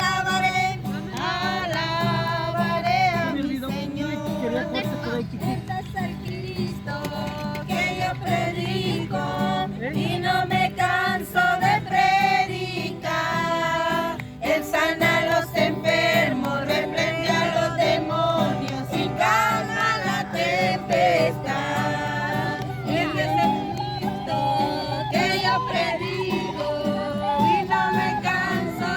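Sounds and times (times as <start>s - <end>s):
people singing: 0.0s - 28.9s.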